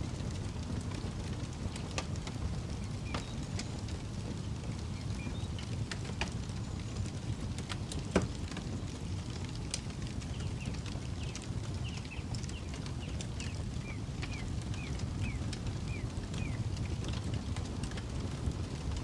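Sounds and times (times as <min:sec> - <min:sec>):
burning wood crackling and popping: 0:00.0 - 0:19.0
campfire low rumble: 0:00.0 - 0:19.0.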